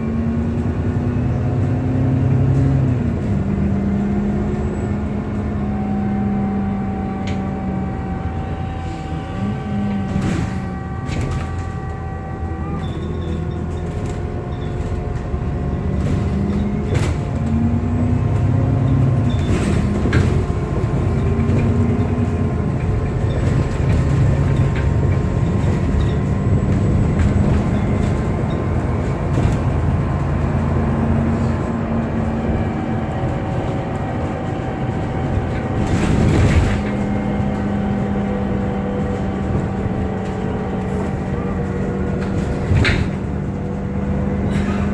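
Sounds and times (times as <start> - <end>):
bus engine hum: 0.0 - 44.9.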